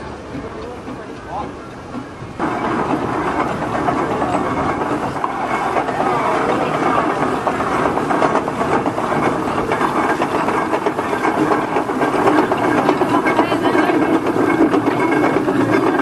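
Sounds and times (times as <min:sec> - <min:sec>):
traction engine clattering knocks: 0:00.0 - 0:16.0.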